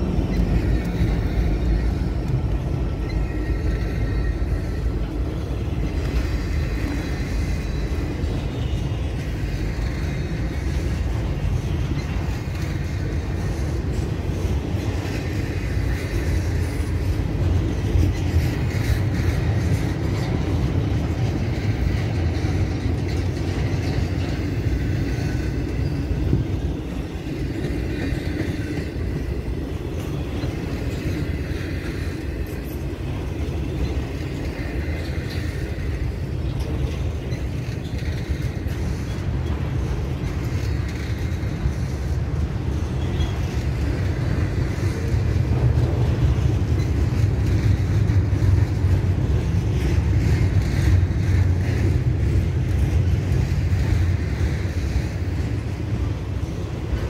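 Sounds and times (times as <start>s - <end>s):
freight train rumbling past: 0.0s - 57.0s
wheels on rail: 0.0s - 57.0s.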